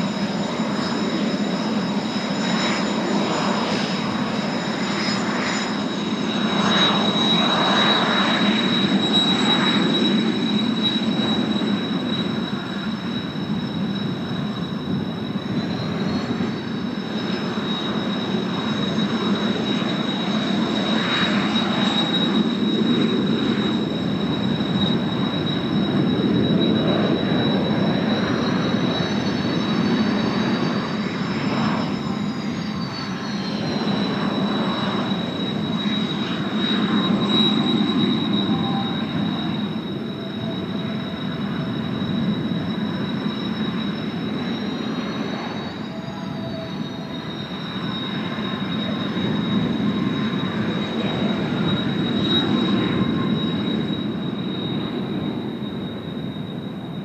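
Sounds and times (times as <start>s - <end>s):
jet engines rushing and whining: 0.0s - 57.0s.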